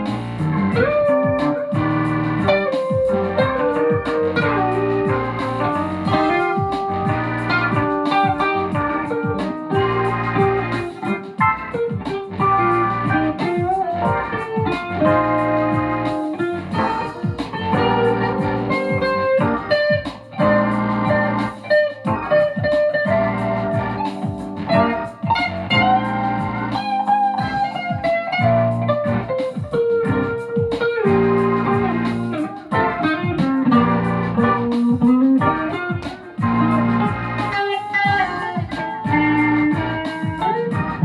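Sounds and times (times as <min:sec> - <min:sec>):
blues electric guitar: 0:00.0 - 0:41.0.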